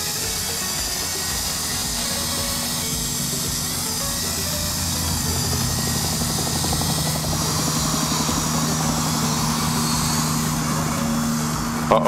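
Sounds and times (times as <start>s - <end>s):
rotors whirring: 0.0s - 12.0s
toy helicopter motor whine: 0.0s - 12.0s.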